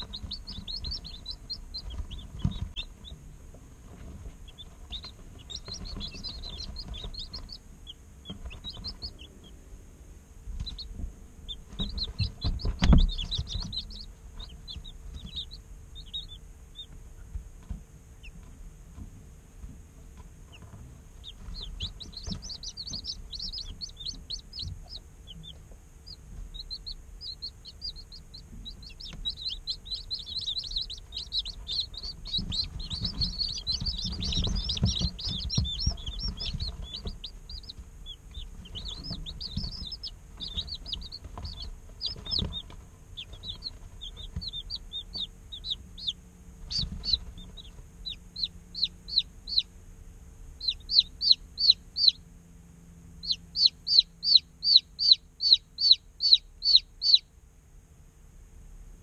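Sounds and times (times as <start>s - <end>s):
chicks peeping: 0.0s - 57.3s
faint steady hum: 0.0s - 59.0s.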